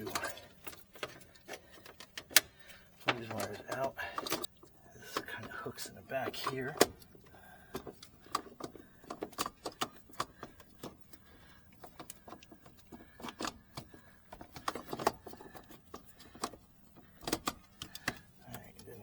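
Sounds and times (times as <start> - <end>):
circuit breaker clicks and rattles: 0.0 - 4.5, 6.3 - 19.0.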